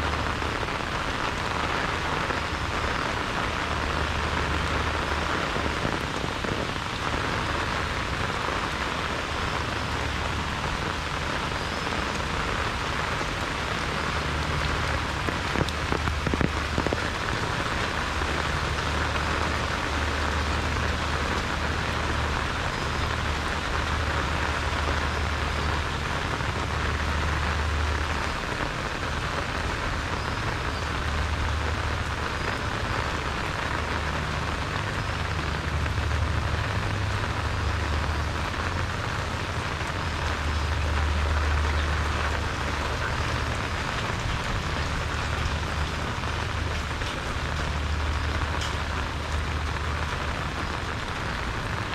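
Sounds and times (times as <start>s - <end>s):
heavy rain falling: 0.0s - 51.9s
low rumble of wind: 0.0s - 51.9s.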